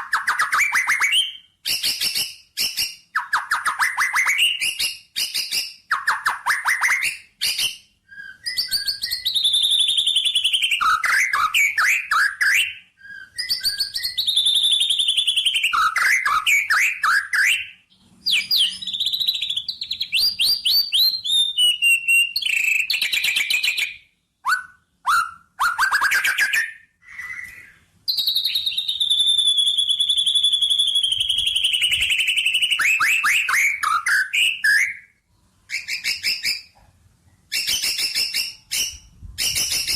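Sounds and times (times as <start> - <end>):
songbird singing chirps and trills: 0.0 - 35.1.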